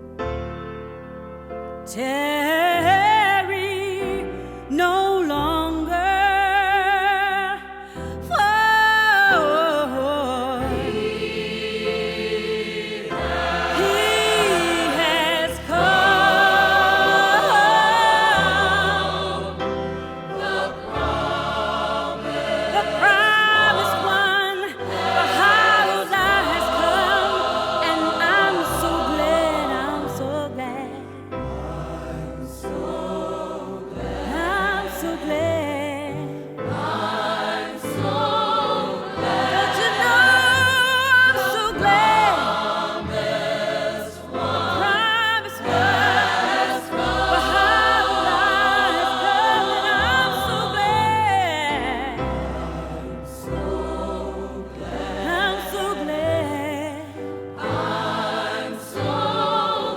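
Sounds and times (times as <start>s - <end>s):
gospel choir singing: 1.9s - 59.9s.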